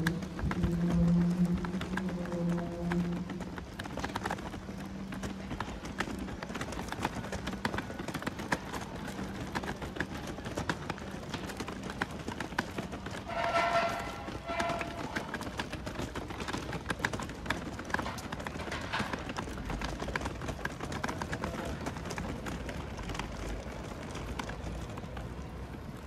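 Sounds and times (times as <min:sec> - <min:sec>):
footsteps on pavement: 0:00.0 - 0:26.0.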